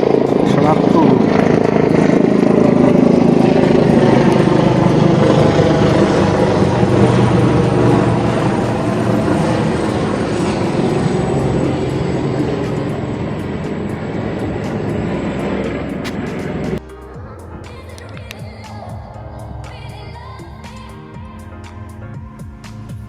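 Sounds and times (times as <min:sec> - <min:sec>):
outboard boat engine running: 0:00.0 - 0:21.4.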